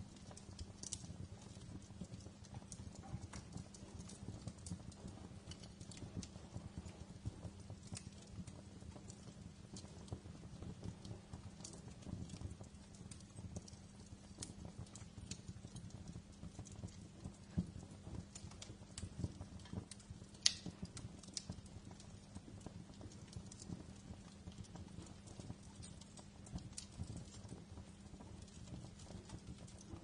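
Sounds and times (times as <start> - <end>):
low fire rumble: 0.0 - 30.0
wood fire crackling: 0.0 - 30.0.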